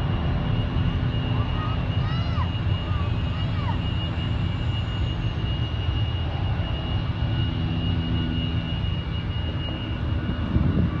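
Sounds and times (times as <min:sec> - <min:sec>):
distant jet engines rumbling: 0:00.0 - 0:11.0
thin steady whine: 0:00.0 - 0:11.0.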